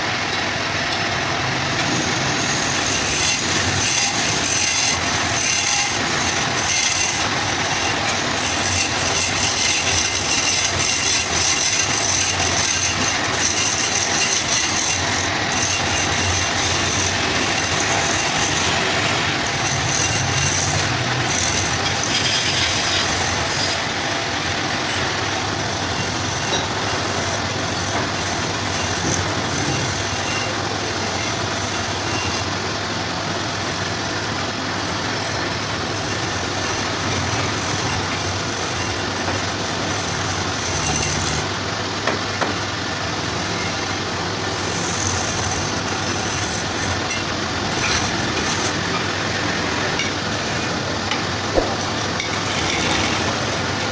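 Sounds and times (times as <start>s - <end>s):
wood lathe cutting wood: 0.0s - 53.9s.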